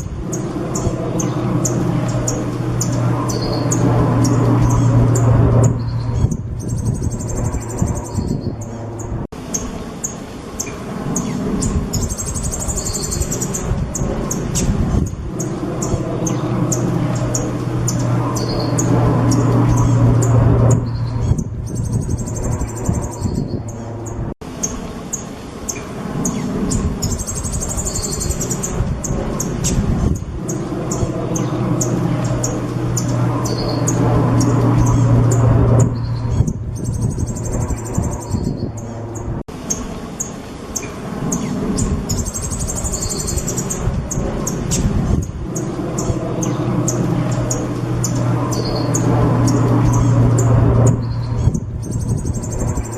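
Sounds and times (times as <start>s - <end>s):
low background rumble: 0.0s - 52.9s
low hum: 0.0s - 52.9s
songbird chirping and trilling: 0.0s - 52.9s.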